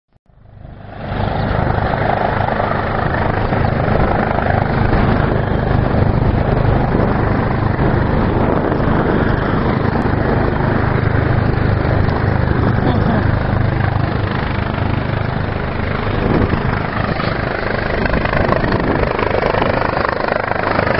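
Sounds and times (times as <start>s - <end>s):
helicopter rotor and engine: 0.3s - 20.9s.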